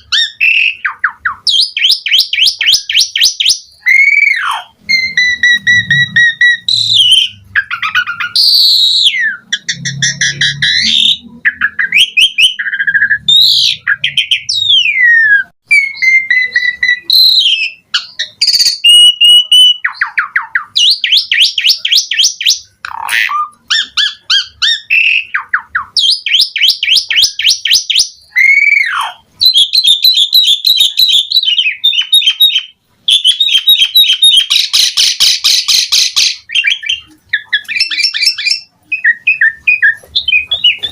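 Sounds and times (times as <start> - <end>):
starling singing: 0.0 - 40.9.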